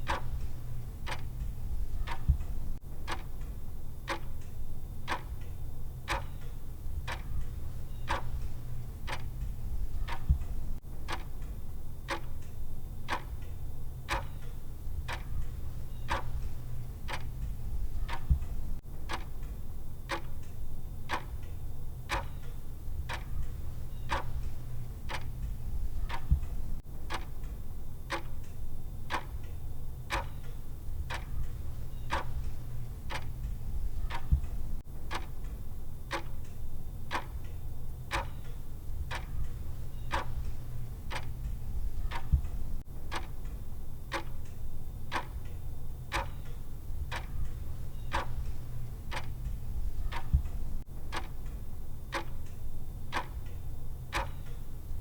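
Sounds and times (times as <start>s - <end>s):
clock ticking: 0.0s - 55.0s
steady low hum: 0.0s - 55.0s.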